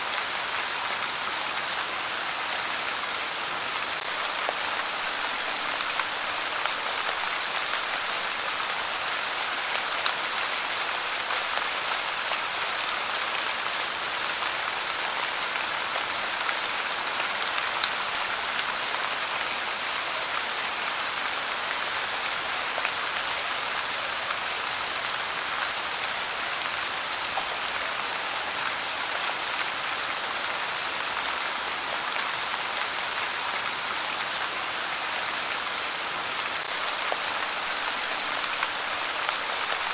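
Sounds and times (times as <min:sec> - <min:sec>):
light rain hiss: 0:00.0 - 0:39.9.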